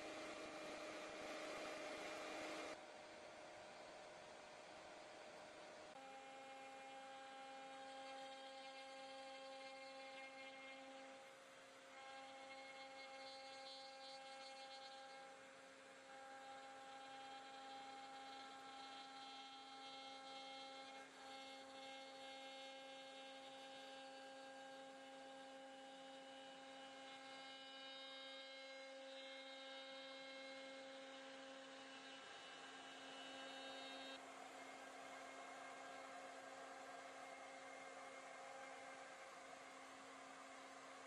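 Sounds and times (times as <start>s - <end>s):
router spindle whine: 0.0s - 41.0s.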